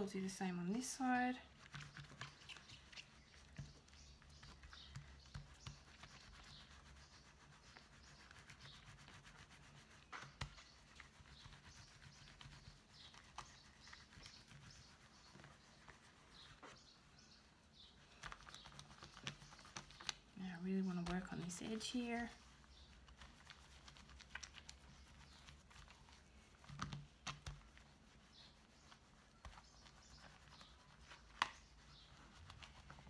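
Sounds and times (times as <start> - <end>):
wet rubbing of hands: 1.5 - 33.0.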